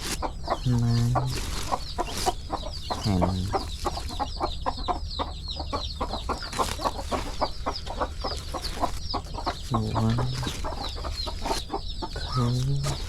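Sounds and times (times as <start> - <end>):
chickens clucking: 0.0 - 13.0
high falling peeps: 0.2 - 13.0.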